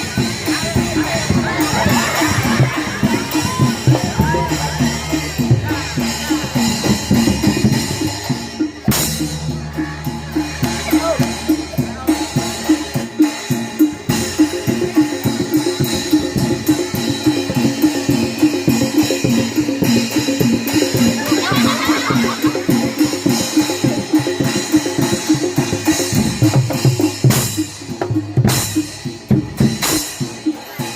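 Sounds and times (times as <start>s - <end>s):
fast dense drumming: 0.0s - 30.9s
ringing metal percussion: 0.0s - 30.9s.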